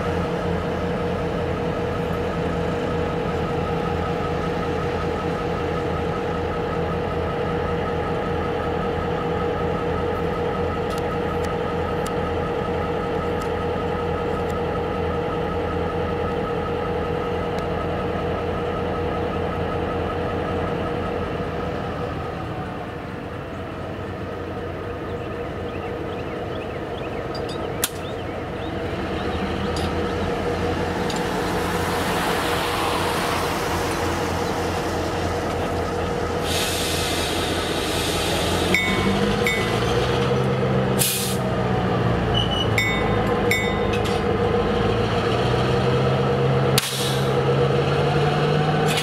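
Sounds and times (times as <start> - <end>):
locomotive diesel engine drone: 0.0 - 49.0.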